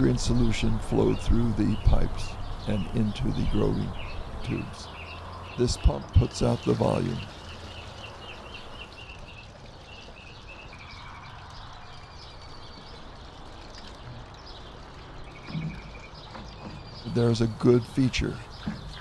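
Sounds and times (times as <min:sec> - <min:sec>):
birds chirping in trills: 0:00.0 - 0:19.0
water rushing through pipes: 0:00.0 - 0:19.0.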